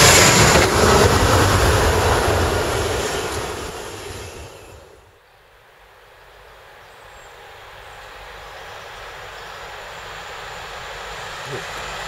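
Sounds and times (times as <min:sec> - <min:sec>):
freight train rolling: 0:00.0 - 0:05.2, 0:05.8 - 0:12.0.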